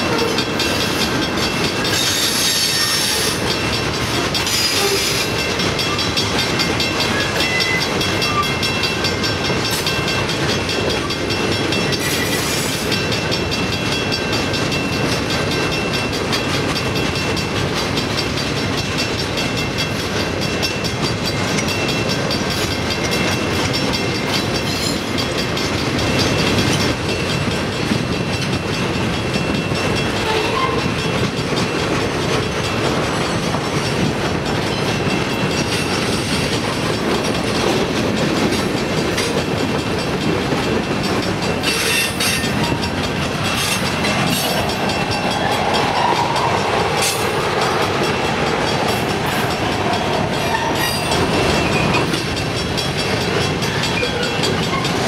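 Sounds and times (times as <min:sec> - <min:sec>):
clickety-clack over rail joints: 0:00.0 - 0:55.0
train wheels on rails: 0:00.0 - 0:55.0.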